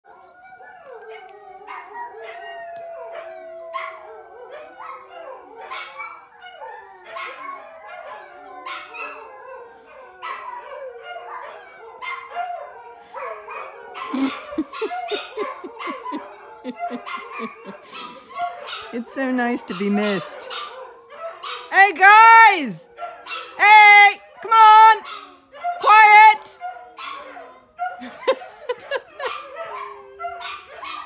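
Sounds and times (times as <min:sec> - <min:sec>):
dogs yipping: 0:00.1 - 0:21.7, 0:22.4 - 0:23.6, 0:25.0 - 0:25.8, 0:26.5 - 0:31.0
dogs howling: 0:00.1 - 0:31.0
dogs barking: 0:01.0 - 0:23.6, 0:24.8 - 0:31.0.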